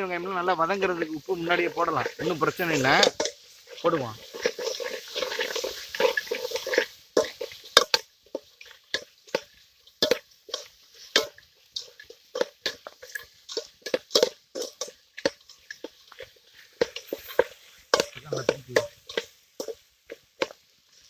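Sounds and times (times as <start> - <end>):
food sizzling in a pan: 0.0 - 21.0
ladle squelching and scraping: 0.0 - 21.0.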